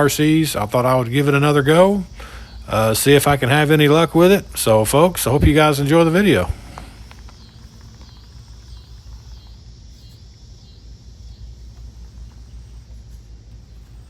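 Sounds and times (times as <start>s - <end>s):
faint pulsing insect call: 0.0s - 14.0s
steady low rumble: 0.0s - 14.0s.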